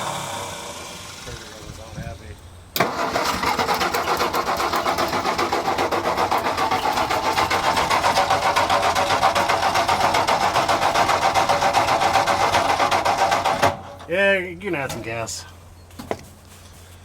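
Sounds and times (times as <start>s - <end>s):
truck engine running: 0.0s - 14.8s.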